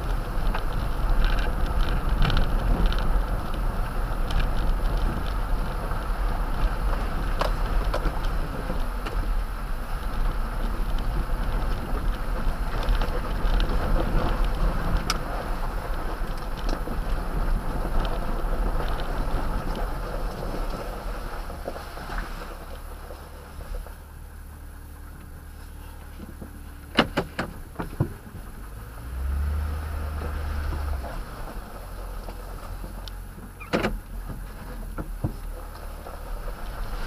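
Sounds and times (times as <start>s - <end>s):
gravel clicks: 0.0s - 37.0s
truck rumble and tyre noise: 0.0s - 37.0s.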